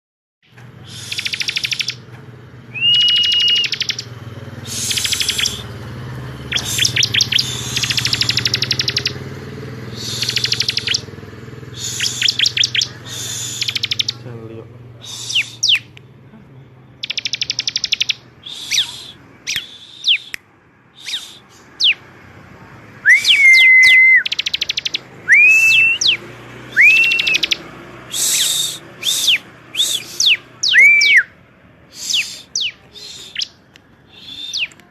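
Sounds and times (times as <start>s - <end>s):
bird singing trills and whistles: 0.4s - 2.1s, 2.7s - 14.4s, 15.0s - 16.1s, 16.9s - 22.1s, 23.0s - 34.9s.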